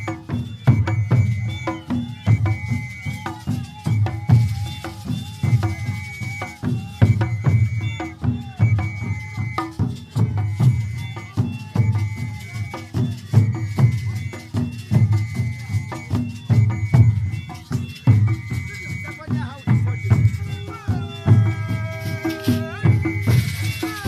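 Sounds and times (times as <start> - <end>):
large drums beating deep rhythm: 0.0 - 24.0
short high held tones: 0.8 - 24.0.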